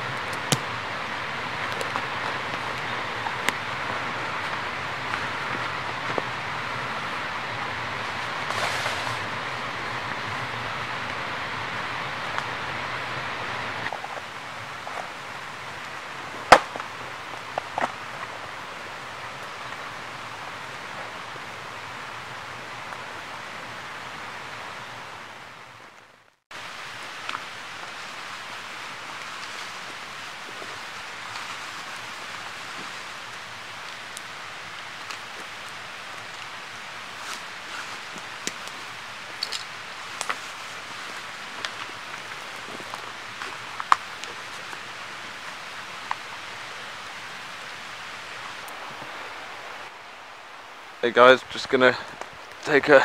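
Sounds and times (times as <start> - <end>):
steady outdoor hiss: 0.0 - 53.0.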